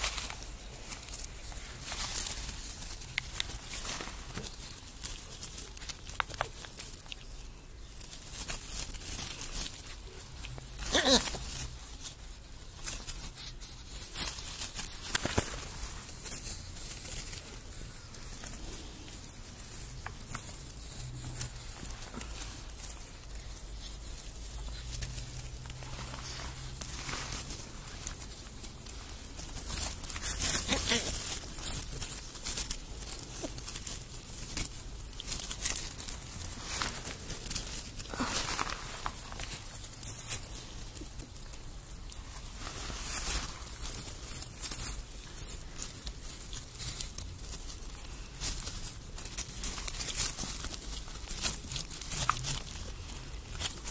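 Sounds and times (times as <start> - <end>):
animals rustling in bedding: 0.0 - 53.9.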